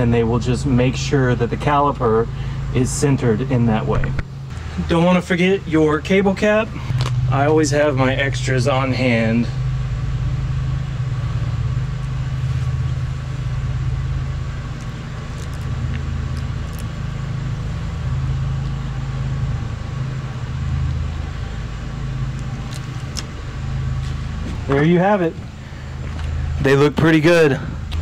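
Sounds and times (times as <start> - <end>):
machine hum with high whine: 0.0 - 28.0.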